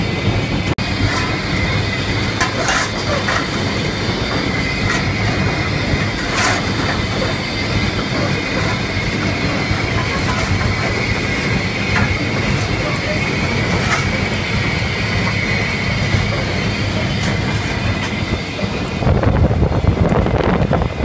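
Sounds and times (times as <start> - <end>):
steam locomotive rumble and rattle: 0.0 - 21.0
wind buffeting microphone: 0.0 - 21.0.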